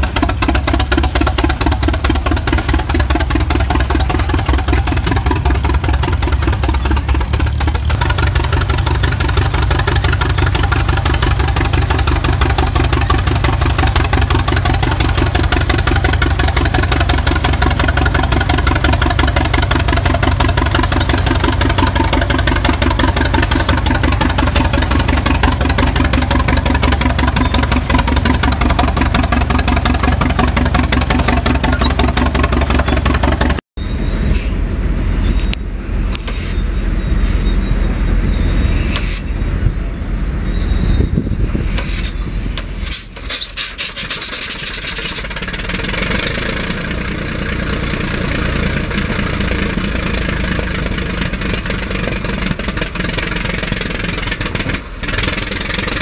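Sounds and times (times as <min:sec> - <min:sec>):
tractor engine running steadily: 0:00.0 - 0:56.0.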